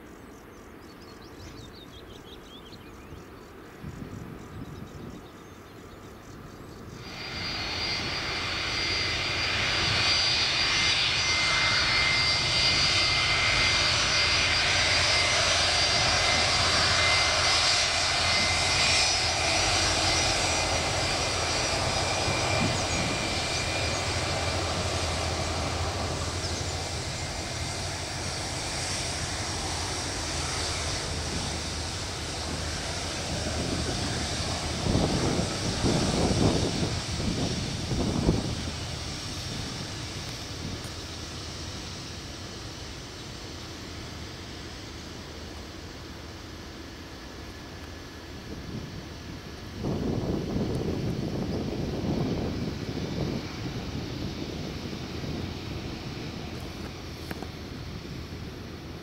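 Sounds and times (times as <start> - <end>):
jet engines whining: 3.2 - 59.0.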